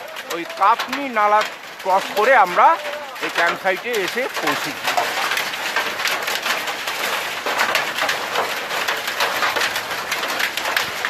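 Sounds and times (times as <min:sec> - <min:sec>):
snow and ice on metal roof: 0:00.0 - 0:11.0.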